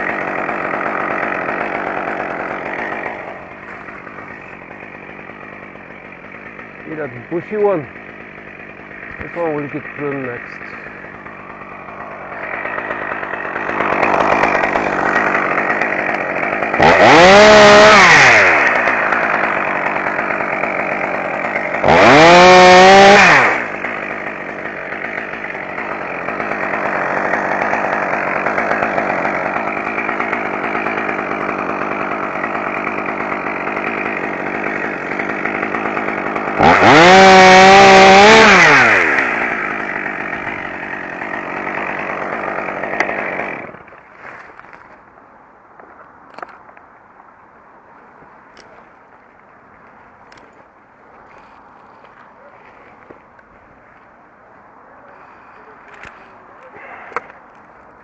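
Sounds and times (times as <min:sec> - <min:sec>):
chainsaw revving and cutting: 0:00.0 - 0:44.9, 0:51.2 - 0:53.5, 0:55.1 - 0:57.4.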